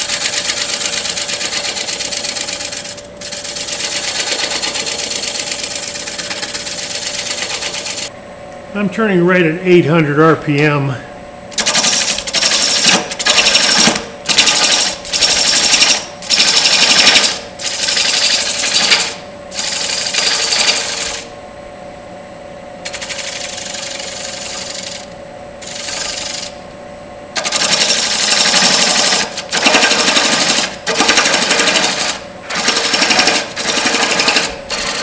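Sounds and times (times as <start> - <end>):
turning tool cutting wood: 0.0 - 8.1, 11.5 - 21.3, 22.9 - 26.6, 27.4 - 35.0
lathe whine: 0.0 - 9.4, 10.7 - 21.7, 22.8 - 35.0.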